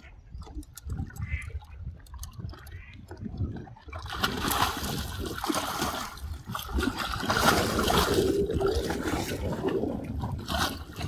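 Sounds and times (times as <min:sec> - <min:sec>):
fish thrashing in water: 0:00.4 - 0:11.0.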